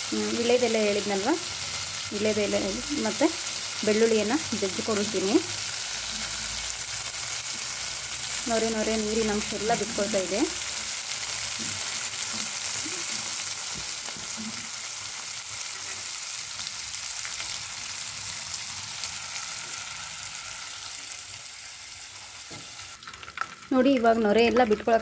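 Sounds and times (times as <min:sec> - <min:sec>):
butter sizzling in a pot: 0:00.0 - 0:25.0.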